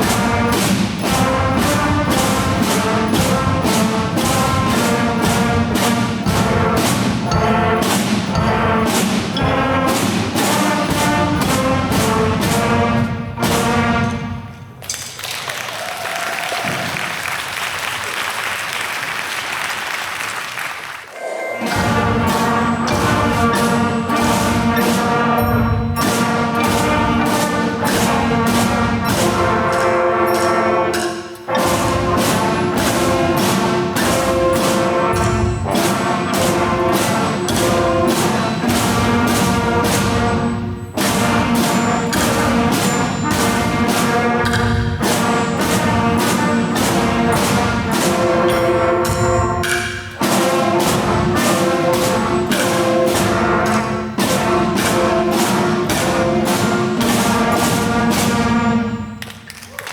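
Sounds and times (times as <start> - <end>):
brass band playing: 0.0 - 14.8, 21.1 - 59.4
steady drum beat: 0.0 - 15.2, 21.6 - 59.5.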